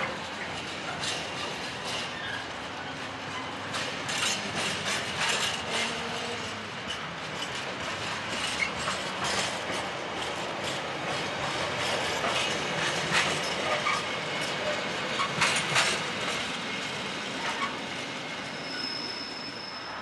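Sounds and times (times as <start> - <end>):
train wheels clattering on rails: 0.0 - 19.5.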